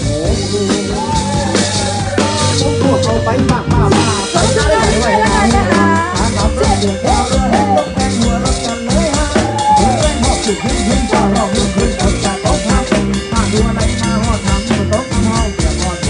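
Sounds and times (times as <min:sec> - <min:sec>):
band music with drums and bass: 0:00.0 - 0:16.0.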